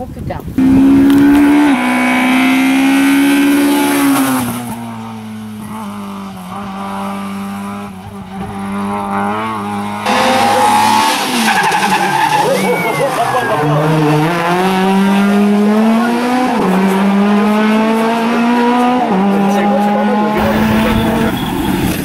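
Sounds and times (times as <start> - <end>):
rally car engines at high revs: 0.6 - 22.0.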